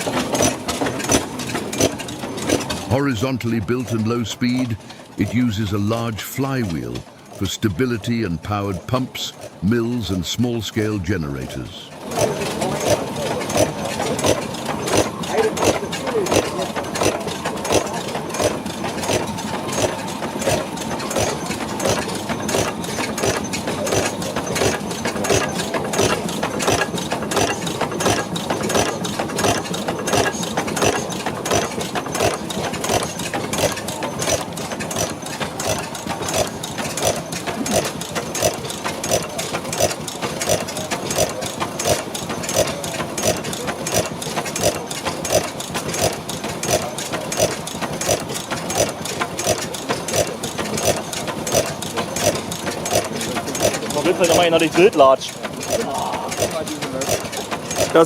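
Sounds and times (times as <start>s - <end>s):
stationary gas engine running: 0.0s - 58.0s.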